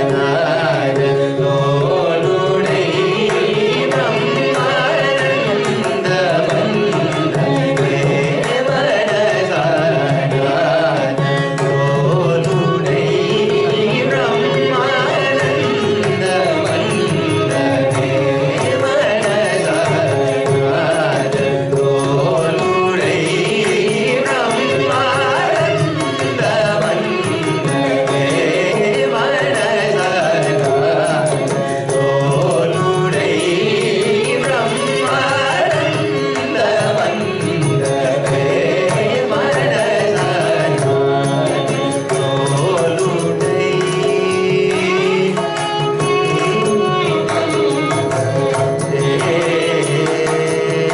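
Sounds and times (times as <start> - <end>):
person singing: 0.0 - 50.9.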